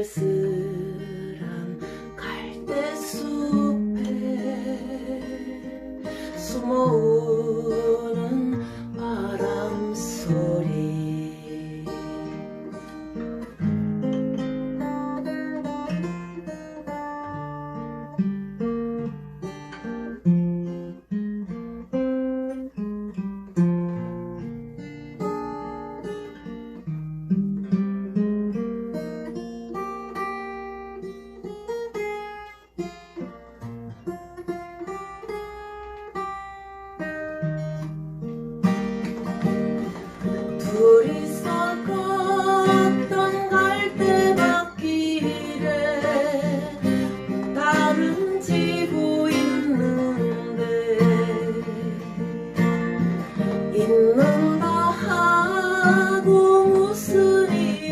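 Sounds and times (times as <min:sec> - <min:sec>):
acoustic guitar ballad: 0:00.0 - 0:57.9.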